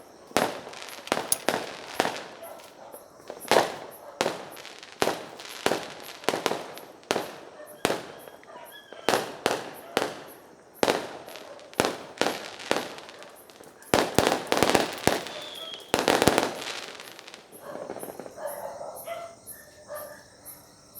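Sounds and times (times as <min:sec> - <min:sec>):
fireworks bangs and crackle: 0:00.0 - 0:19.0
voices: 0:00.0 - 0:20.7
crickets chirping: 0:00.0 - 0:20.9.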